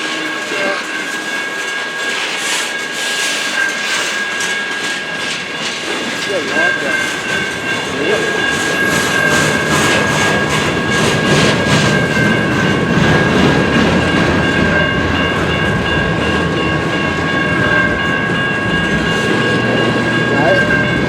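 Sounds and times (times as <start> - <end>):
freight train wheels on rails: 0.0 - 21.0
steady high tone: 0.0 - 21.0
clacking over rail joints: 2.1 - 21.0.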